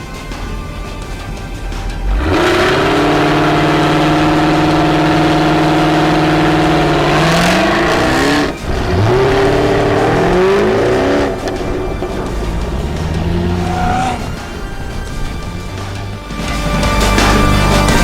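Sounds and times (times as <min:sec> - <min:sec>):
sports car engine revving: 0:00.0 - 0:18.0.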